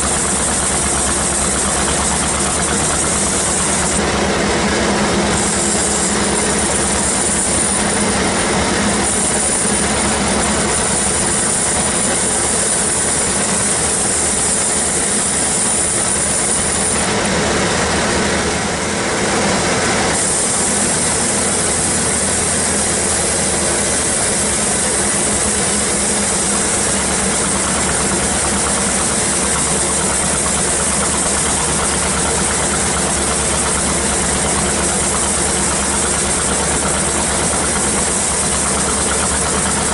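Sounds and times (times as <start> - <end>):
band saw whine: 0.0 - 39.9
engine hum: 0.0 - 39.9.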